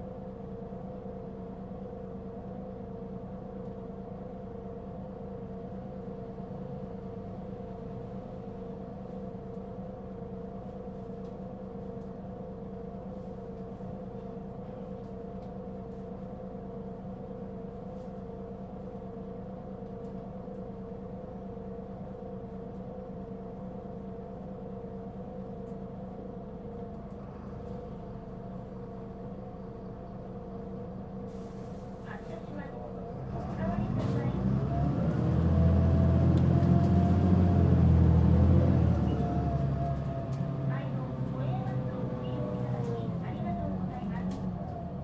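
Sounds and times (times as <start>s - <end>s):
bus engine droning: 0.0s - 45.0s.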